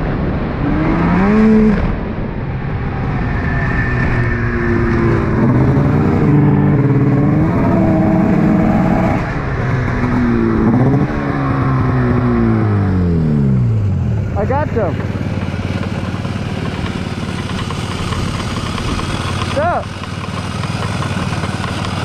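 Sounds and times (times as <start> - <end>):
snowmobile engine running: 3.0 - 22.0.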